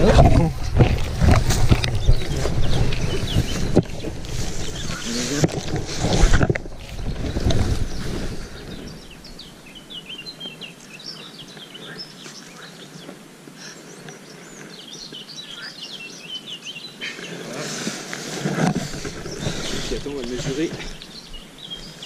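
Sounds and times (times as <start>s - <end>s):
faint outdoor background noise: 0.0s - 22.0s
small birds chirping and trilling: 0.0s - 22.0s.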